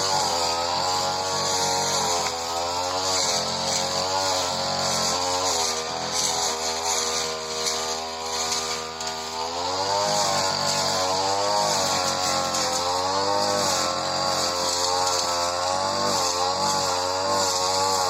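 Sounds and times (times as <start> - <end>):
brush cutter engine cutting grass: 0.0 - 18.0.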